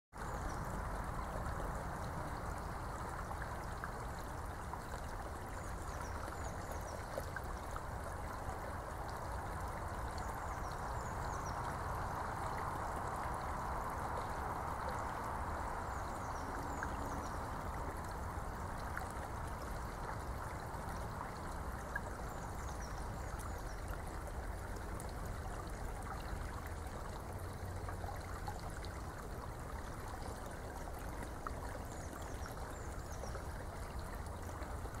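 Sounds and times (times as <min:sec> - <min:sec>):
running water rushing: 0:00.2 - 0:35.0.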